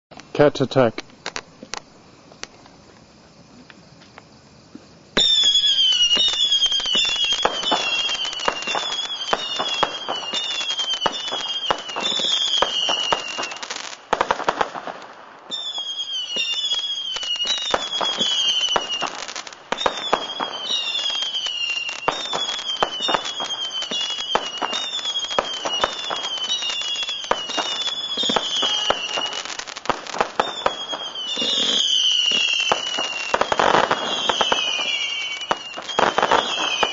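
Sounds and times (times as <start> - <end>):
firework crackling pops: 0.1 - 36.9
firework whistles: 5.1 - 36.9.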